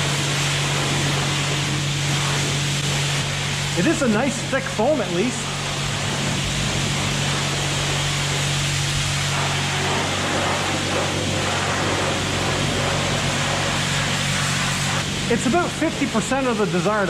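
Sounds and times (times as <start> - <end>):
foam sprayer hissing: 0.0 - 17.0
low steady hum: 0.0 - 17.0.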